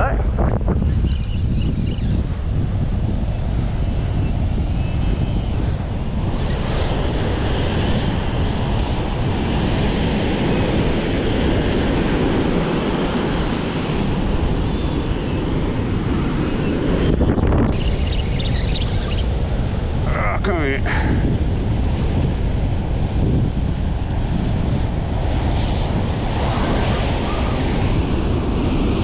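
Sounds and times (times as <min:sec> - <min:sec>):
wind buffeting microphone: 0:00.0 - 0:29.0
ocean surf breaking on beach: 0:02.3 - 0:29.0.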